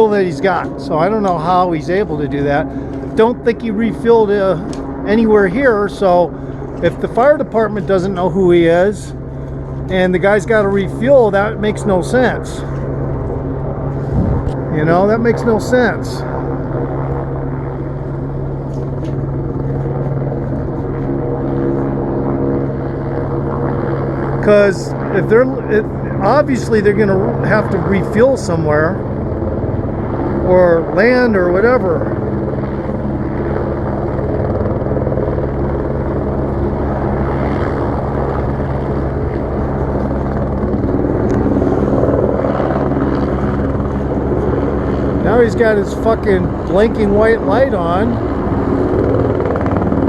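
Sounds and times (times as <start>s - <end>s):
helicopter flying overhead: 0.0s - 50.0s.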